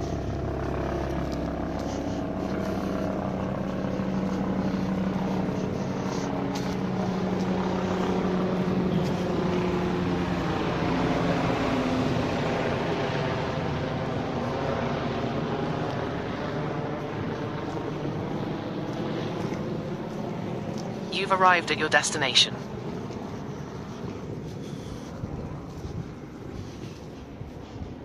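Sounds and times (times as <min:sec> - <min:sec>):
road noise: 0:00.0 - 0:28.0
vehicle engine hum: 0:00.0 - 0:28.0.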